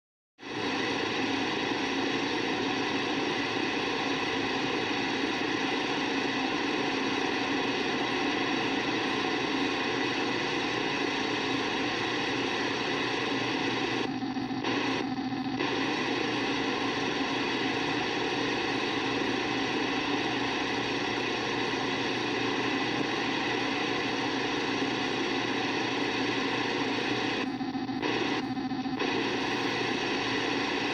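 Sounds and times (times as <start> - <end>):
radio interference buzzing: 0.6 - 30.9.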